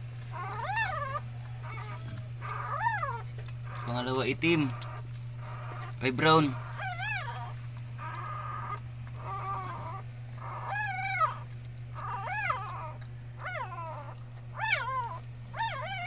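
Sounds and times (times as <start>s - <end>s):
steady low hum: 0.0s - 16.0s
puppy squealing: 0.3s - 16.0s.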